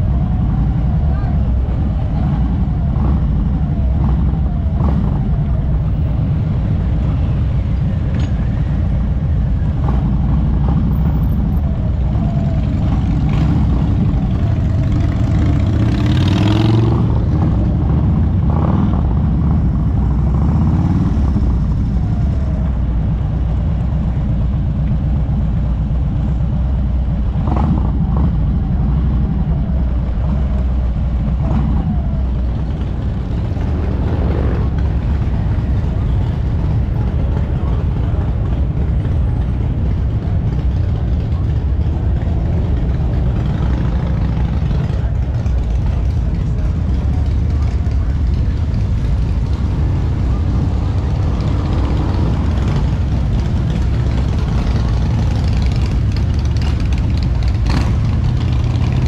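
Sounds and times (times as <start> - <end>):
other motorcycle engines: 0.0 - 59.0
rush of noise: 0.0 - 59.0
motorcycle engine running: 0.1 - 59.0.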